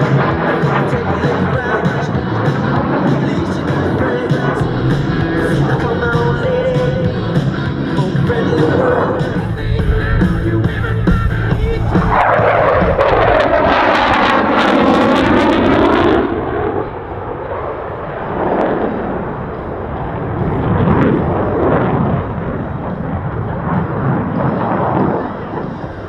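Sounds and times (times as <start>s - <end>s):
jet engines roaring past: 0.0s - 26.0s.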